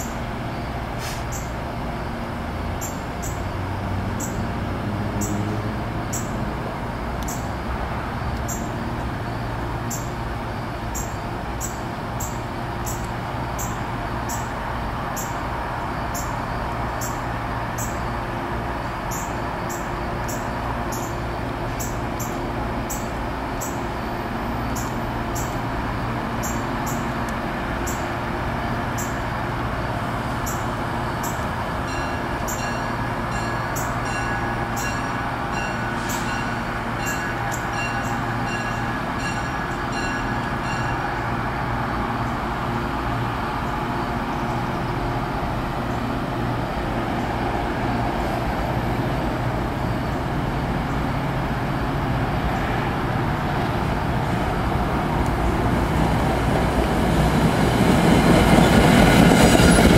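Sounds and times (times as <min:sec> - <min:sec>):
diesel train engine drone: 0:00.0 - 0:59.9.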